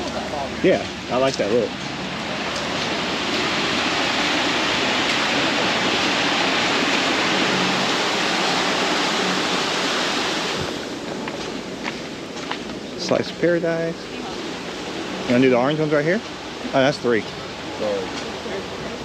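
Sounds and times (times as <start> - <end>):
pool water spilling over edge: 0.0 - 19.0.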